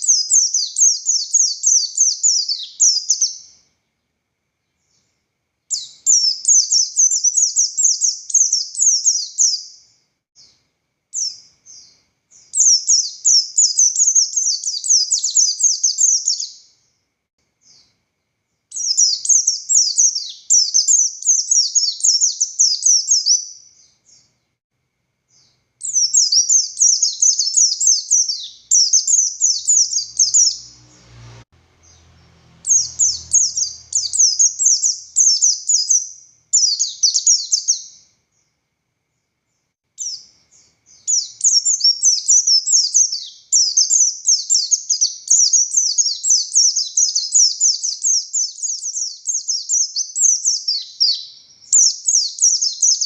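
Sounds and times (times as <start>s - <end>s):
bird twittering song: 0.0s - 17.0s, 17.6s - 24.6s, 25.3s - 53.0s.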